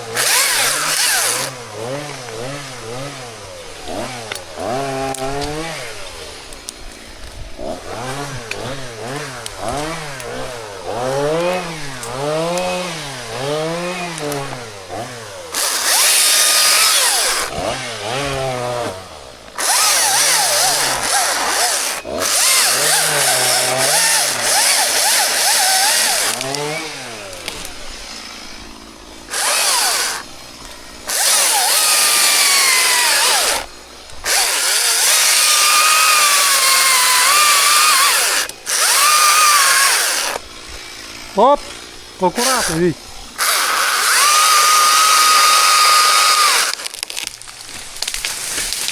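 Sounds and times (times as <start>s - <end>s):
chainsaw cutting wood: 0.0s - 48.9s
chainsaw revving: 0.0s - 48.9s.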